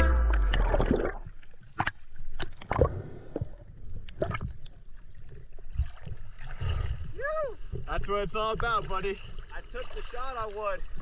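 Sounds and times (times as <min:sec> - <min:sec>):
seawater sloshing and gurgling: 0:00.3 - 0:11.0.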